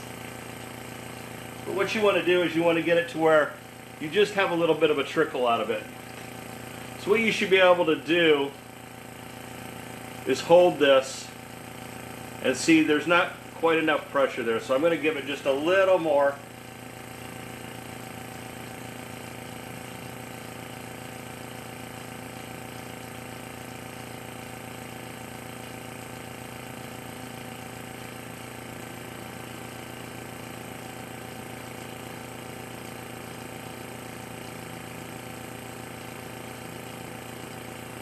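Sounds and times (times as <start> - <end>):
air compressor pump humming: 0.0 - 38.0.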